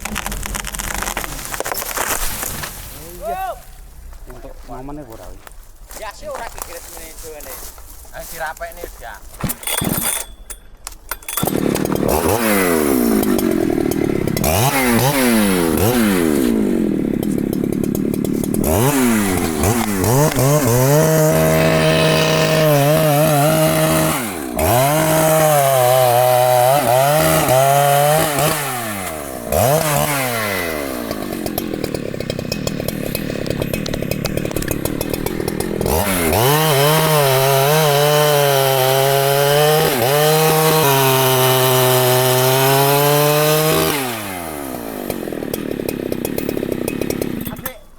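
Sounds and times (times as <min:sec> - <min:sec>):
chainsaw revving: 0:00.0 - 0:02.8, 0:11.3 - 0:47.9
chainsaw cutting wood: 0:00.0 - 0:03.2, 0:09.3 - 0:47.9.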